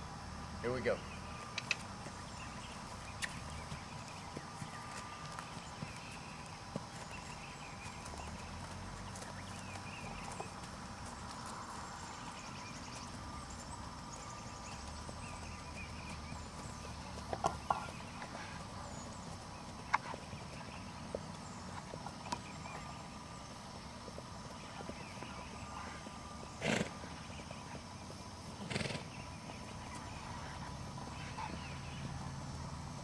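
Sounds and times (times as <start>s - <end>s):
horse hoofbeats on grass: 0.0s - 33.0s.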